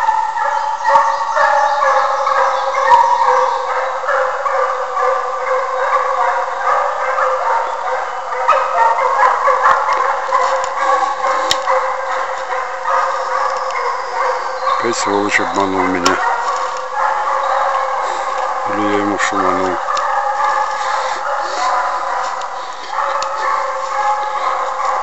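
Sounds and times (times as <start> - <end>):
hounds baying: 0.0 - 25.0.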